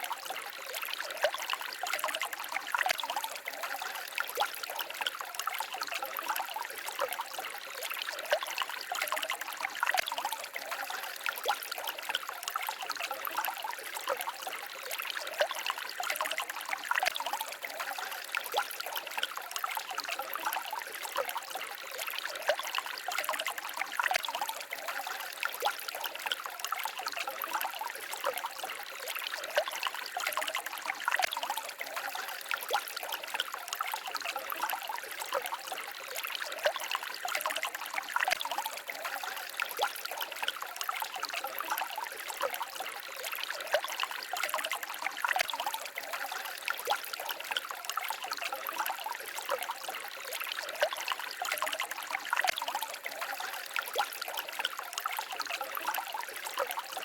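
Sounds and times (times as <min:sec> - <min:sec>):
small stream babbling: 0:00.0 - 0:57.0.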